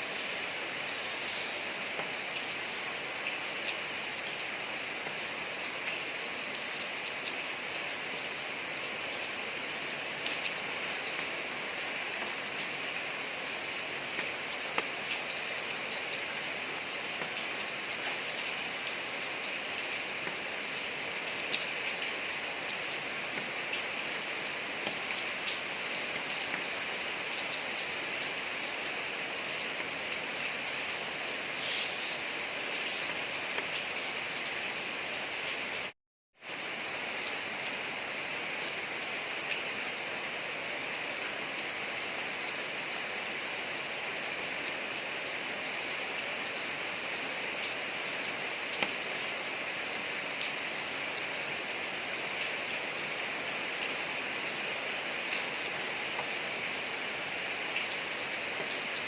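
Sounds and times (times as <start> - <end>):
rain falling on a street: 0.0 - 59.0.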